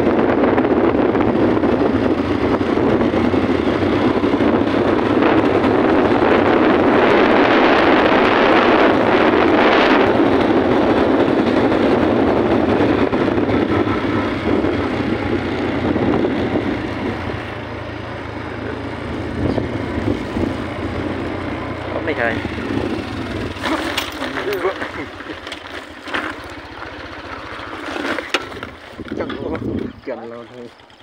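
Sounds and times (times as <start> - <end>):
wind rushing over microphone: 0.0 - 25.5, 26.5 - 30.6
motorbike engine running: 0.0 - 29.9.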